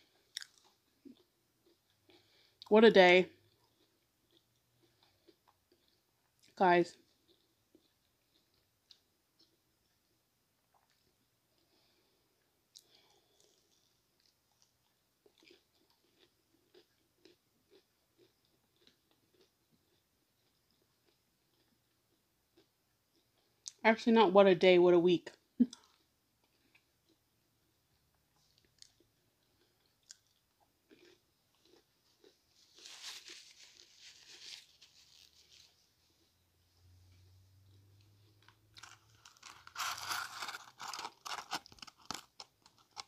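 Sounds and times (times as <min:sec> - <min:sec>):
soft moist chewing: 0:00.0 - 0:02.7, 0:03.3 - 0:23.8, 0:25.3 - 0:43.0.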